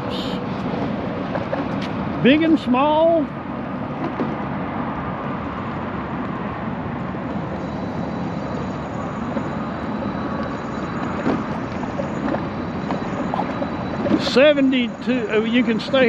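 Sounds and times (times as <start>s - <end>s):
heavy highway traffic: 0.0s - 16.0s.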